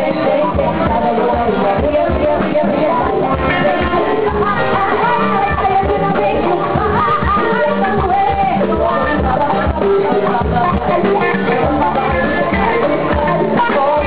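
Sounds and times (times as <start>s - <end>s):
drums with steady beat: 0.0s - 14.0s
electric guitar: 0.0s - 14.0s
person singing: 0.0s - 14.0s.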